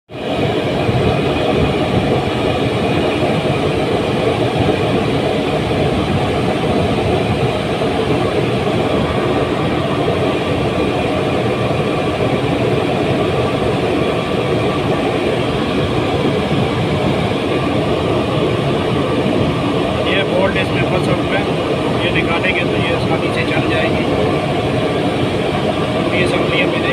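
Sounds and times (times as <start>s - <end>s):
industrial machinery rumble and hum: 0.1s - 26.9s.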